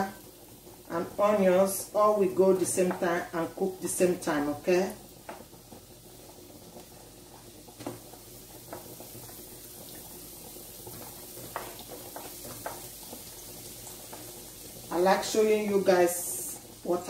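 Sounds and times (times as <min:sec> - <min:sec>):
vegetables sizzling in frying pan: 0:00.0 - 0:17.0.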